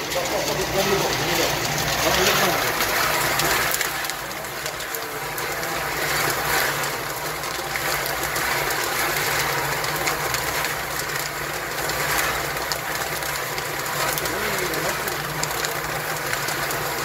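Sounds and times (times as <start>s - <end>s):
nuts tumbling and rattling: 0.0s - 17.0s.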